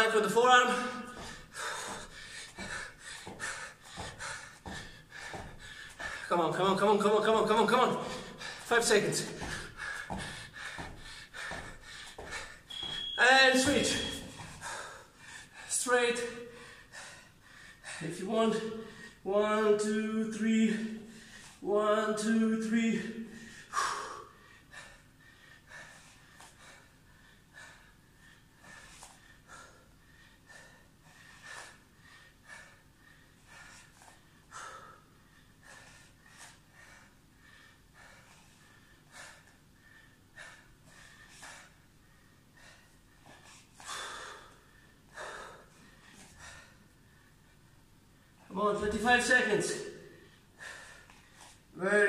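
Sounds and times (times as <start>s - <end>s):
man breathing hard: 0.0s - 6.4s, 7.8s - 13.0s, 13.6s - 19.3s, 20.7s - 21.6s, 22.9s - 48.5s, 49.3s - 51.8s.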